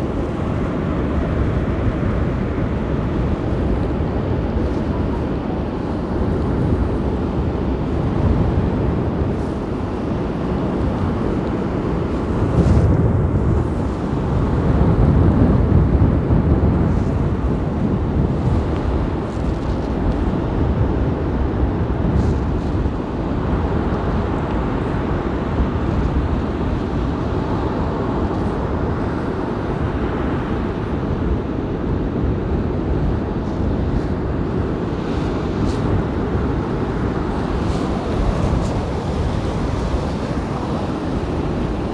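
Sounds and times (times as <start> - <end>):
surf waves breaking: 0.0 - 41.9
wind buffeting microphone: 0.0 - 41.9.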